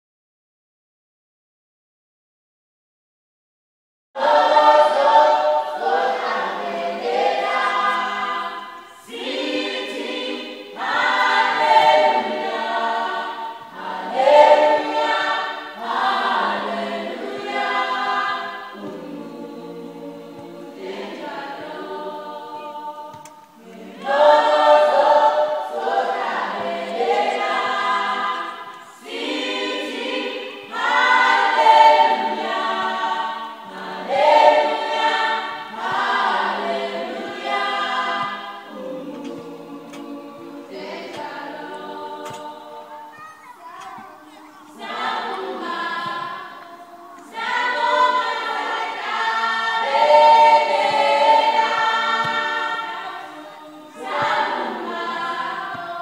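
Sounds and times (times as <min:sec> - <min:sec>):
choir singing: 0:04.2 - 0:56.0.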